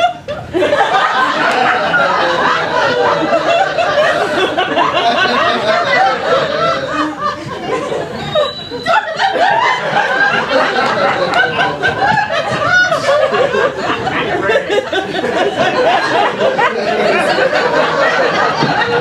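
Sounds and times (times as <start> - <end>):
audience laughing: 0.0 - 19.0.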